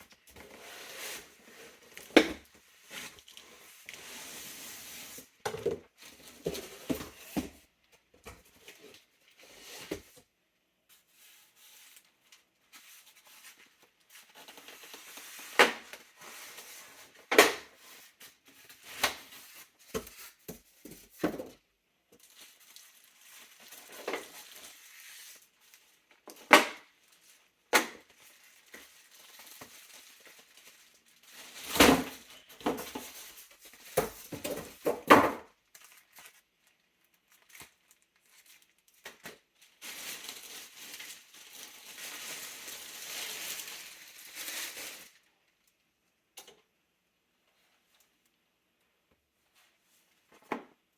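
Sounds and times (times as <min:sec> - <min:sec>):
packaging rustling and scraping: 0:00.0 - 0:10.3, 0:10.9 - 0:21.6, 0:22.2 - 0:45.3.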